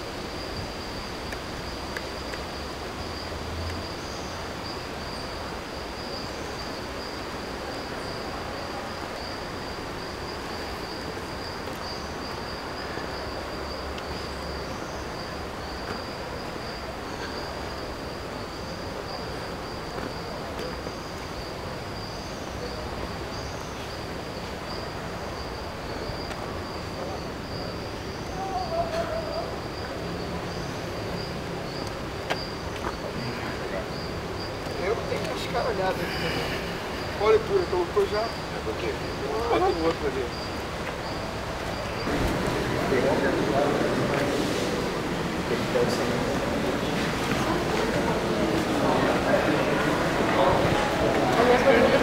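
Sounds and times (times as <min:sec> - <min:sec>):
insects droning: 0:00.0 - 0:52.0
steady outdoor hiss: 0:00.0 - 0:52.0.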